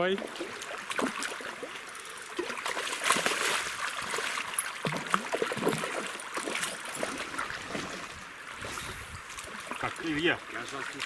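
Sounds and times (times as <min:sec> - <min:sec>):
fish splashing and thrashing in water: 0:00.0 - 0:11.0
flowing river: 0:00.0 - 0:11.0.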